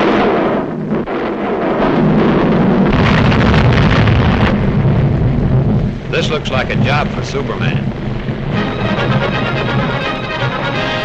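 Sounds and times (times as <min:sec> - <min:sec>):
explosive blasts: 0:00.0 - 0:11.0
volcanic low rumble: 0:00.0 - 0:11.0.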